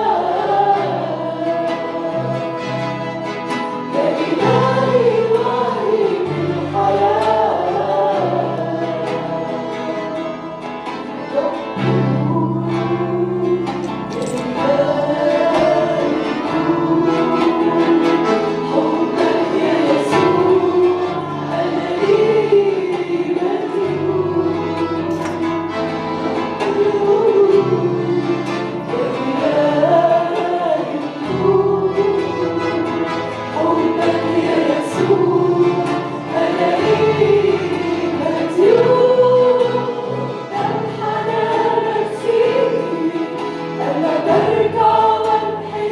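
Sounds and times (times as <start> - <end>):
congregation singing a hymn: 0.0 - 45.9.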